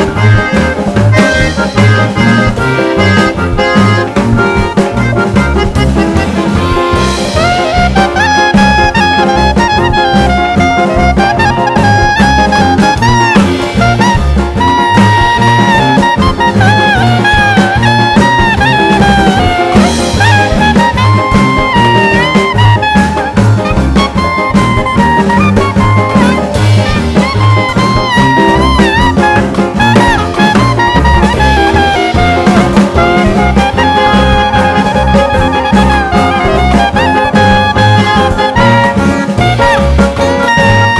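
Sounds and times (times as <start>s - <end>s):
swing jazz with brass horns: 0.0s - 40.9s.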